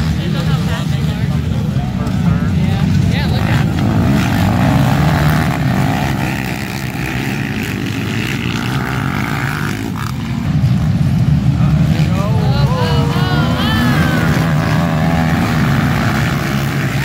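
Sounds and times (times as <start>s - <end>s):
quad engines revving: 0.0s - 17.0s.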